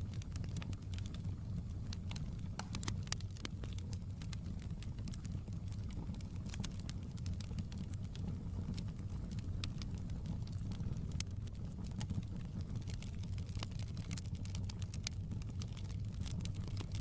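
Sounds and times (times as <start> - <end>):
fire flames roaring: 0.0 - 17.0
wood fire crackling and popping: 0.0 - 17.0.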